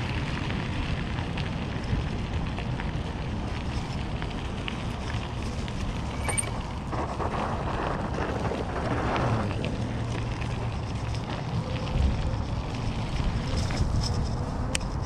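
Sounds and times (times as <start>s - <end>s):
tyre noise on unpaved road: 0.0s - 15.0s
wind buffeting microphone: 0.0s - 15.0s.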